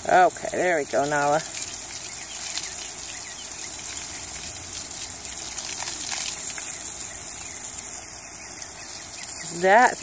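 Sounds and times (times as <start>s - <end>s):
garden hose spraying water: 0.0s - 10.0s.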